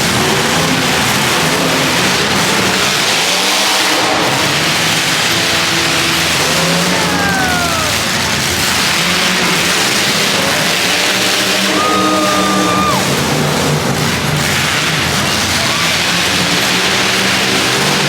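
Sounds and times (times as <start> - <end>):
car engines revving: 0.0 - 18.0
loud steady din: 0.0 - 18.0.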